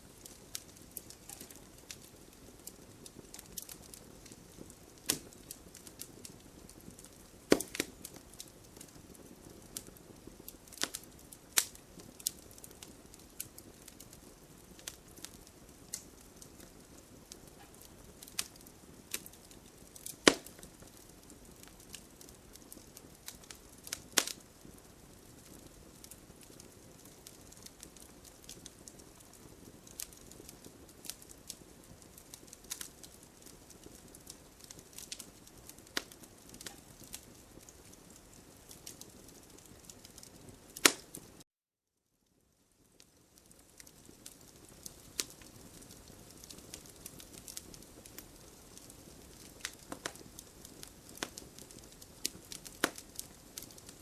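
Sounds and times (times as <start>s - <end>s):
campfire crackling and popping: 0.0s - 41.4s, 42.3s - 54.0s.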